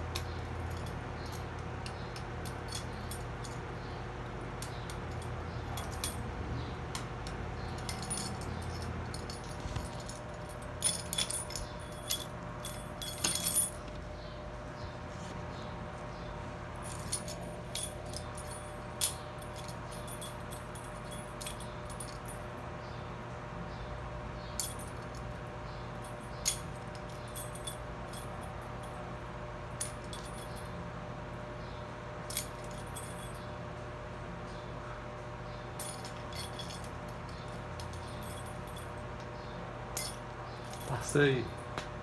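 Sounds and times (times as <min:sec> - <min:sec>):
electric fan running: 0:00.0 - 0:42.0.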